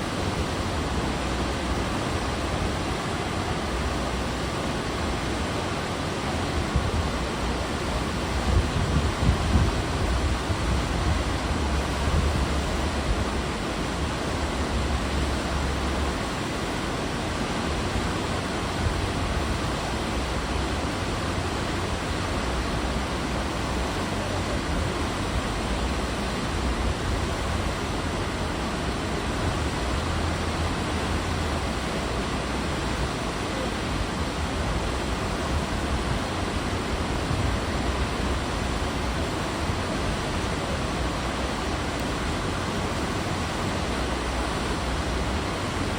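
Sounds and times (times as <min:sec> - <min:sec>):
low ship rumble: 0:00.0 - 0:45.9
sea water rushing: 0:00.0 - 0:45.9.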